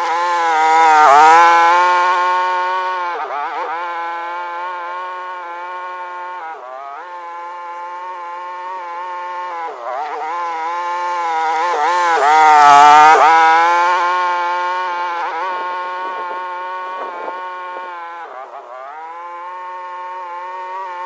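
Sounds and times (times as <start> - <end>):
small buggy engine running: 0.0 - 21.0.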